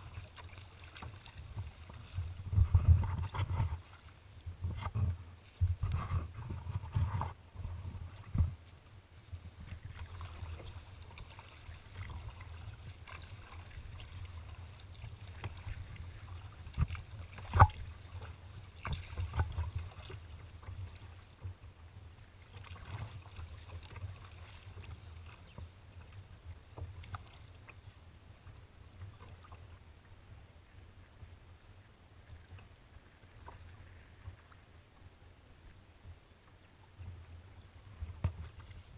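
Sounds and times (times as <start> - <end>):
waves slapping against hull: 0.0 - 29.8, 36.4 - 38.9.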